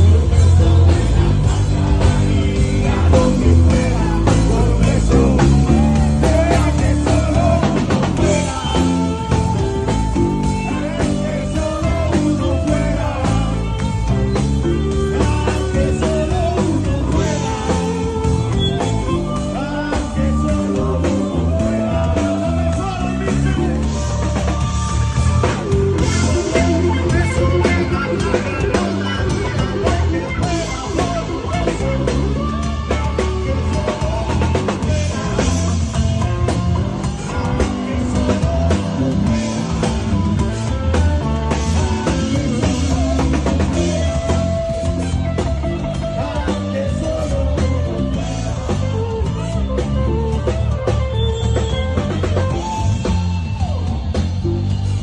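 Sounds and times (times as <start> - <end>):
man singing into microphone: 0.0 - 25.4, 26.0 - 39.9, 41.5 - 49.4
drum kit: 0.0 - 55.0
electric bass: 0.0 - 55.0
electric guitar playing: 0.0 - 55.0.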